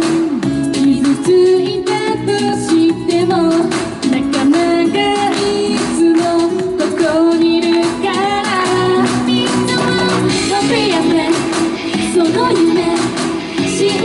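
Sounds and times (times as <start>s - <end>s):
upbeat pop song with female vocals: 0.0s - 14.0s.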